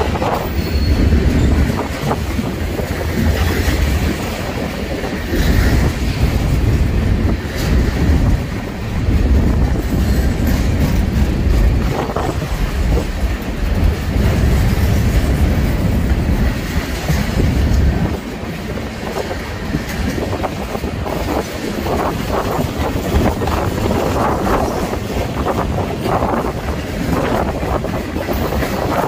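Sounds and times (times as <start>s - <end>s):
freight train rumbling past: 0.0s - 29.0s
wheels clacking on rail joints: 0.0s - 29.0s.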